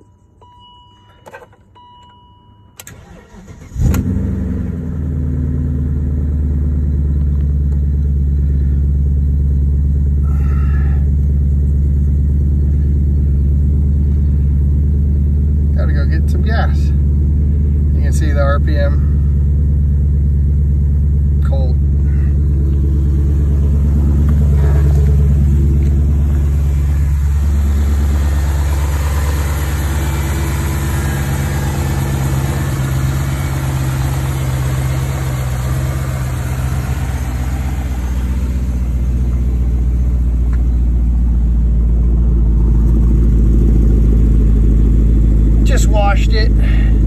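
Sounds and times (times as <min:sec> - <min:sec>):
car engine idling: 0:02.8 - 0:47.0.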